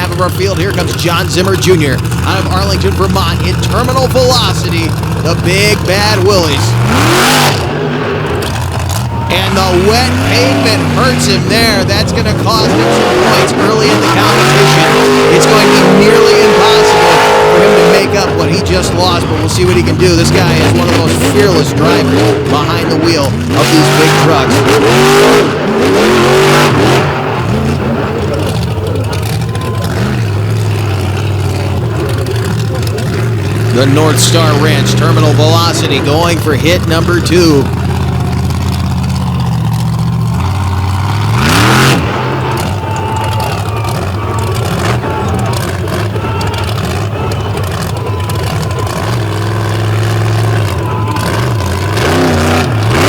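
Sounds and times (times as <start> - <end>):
truck engine revving: 0.0 - 53.0.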